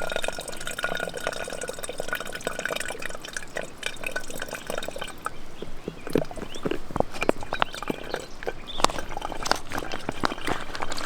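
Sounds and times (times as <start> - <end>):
water trickling into bottle: 0.0 - 11.0.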